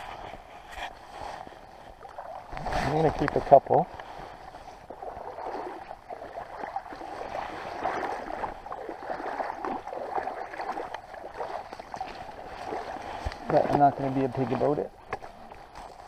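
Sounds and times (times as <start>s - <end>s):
footsteps in wet grass: 0.0s - 16.0s
rustling through wet grass: 0.0s - 16.0s.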